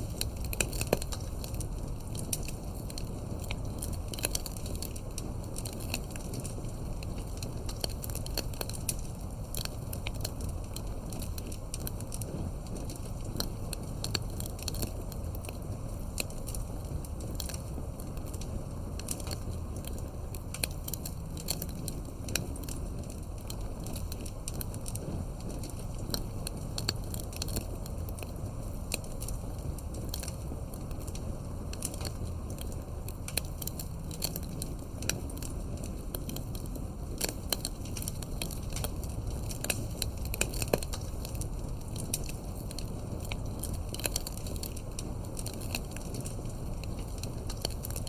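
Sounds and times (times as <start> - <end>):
low rumble of flame: 0.0 - 48.0
wood fire crackling: 0.0 - 48.0.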